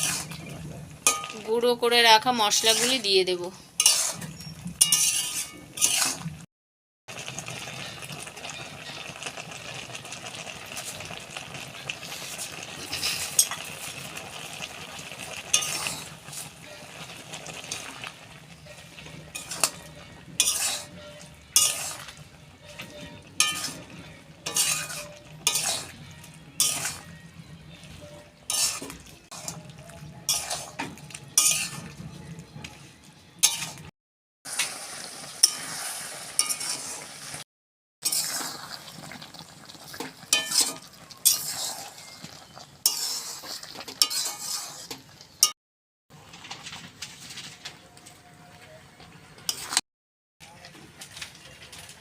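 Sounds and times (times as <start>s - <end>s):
utensil scraping a cooking pan: 0.0s - 6.5s, 7.3s - 33.9s, 34.5s - 37.4s, 38.0s - 45.6s, 49.4s - 49.8s.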